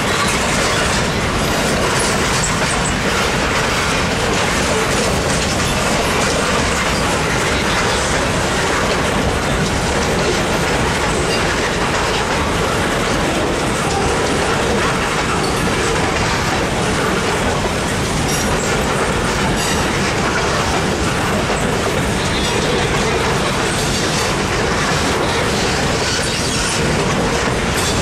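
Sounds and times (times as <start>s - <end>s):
freight train wheels on rails: 0.0s - 28.0s.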